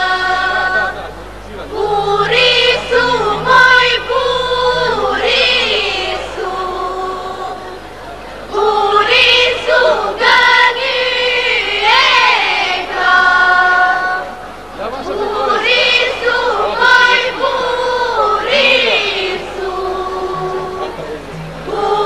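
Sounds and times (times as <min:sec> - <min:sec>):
girls singing folk song: 0:00.0 - 0:01.0, 0:01.7 - 0:07.9, 0:08.5 - 0:14.4, 0:15.2 - 0:22.0.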